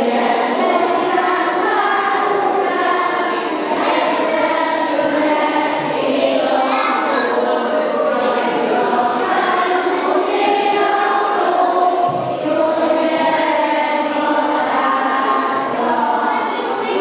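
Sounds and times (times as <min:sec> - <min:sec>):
children singing in chorus: 0:00.0 - 0:17.0.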